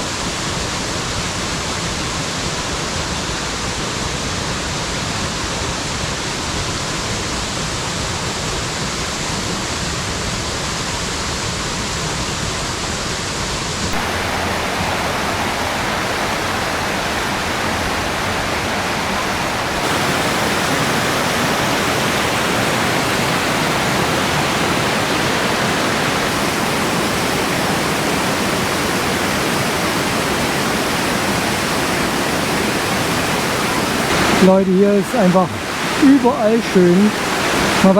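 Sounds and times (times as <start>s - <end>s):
mountain stream rushing and splashing: 0.0s - 37.9s.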